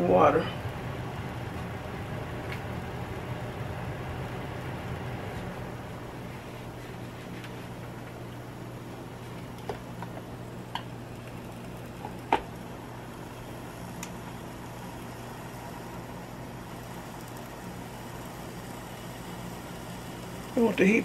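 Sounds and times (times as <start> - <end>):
kitchen appliance hum: 0.0 - 21.0.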